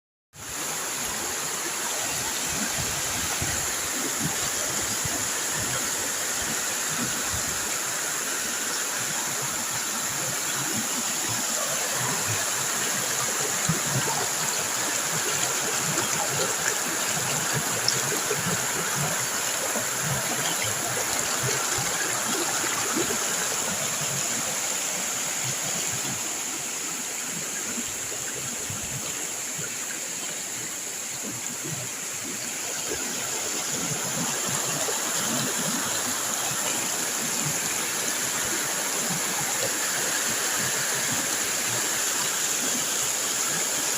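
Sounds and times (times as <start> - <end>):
waterfall splashing: 0.5 - 43.9.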